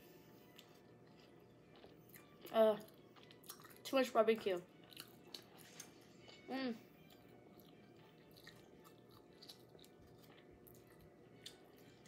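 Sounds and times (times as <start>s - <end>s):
faint chewing: 0.5s - 12.0s.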